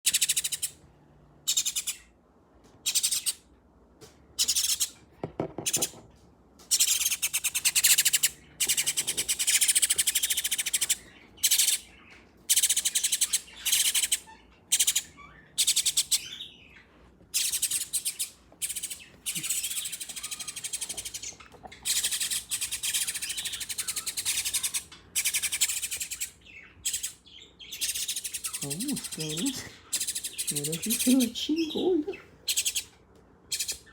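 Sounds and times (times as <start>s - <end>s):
nestling birds begging calls: 1.5s - 2.1s, 6.7s - 16.8s, 17.4s - 33.9s.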